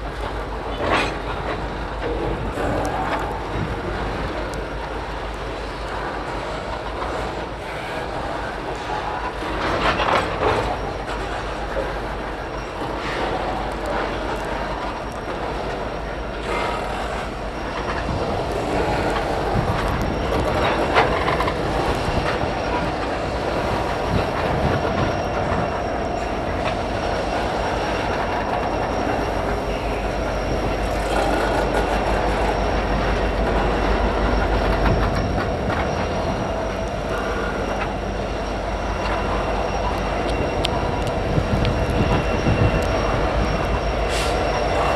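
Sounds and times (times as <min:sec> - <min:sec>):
train wheels clicking over rail joints: 0:00.0 - 0:44.9
train wheels squealing: 0:00.0 - 0:44.9.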